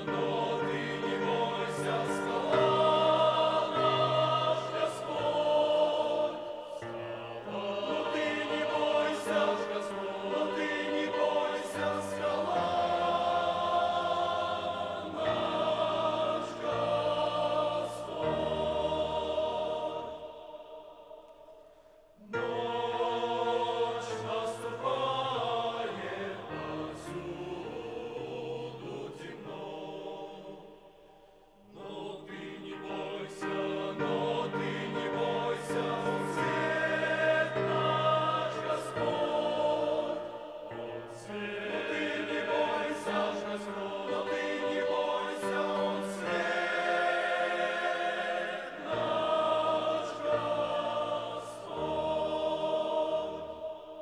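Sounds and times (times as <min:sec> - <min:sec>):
men's choir singing a hymn: 0:00.0 - 0:21.6, 0:22.2 - 0:54.0.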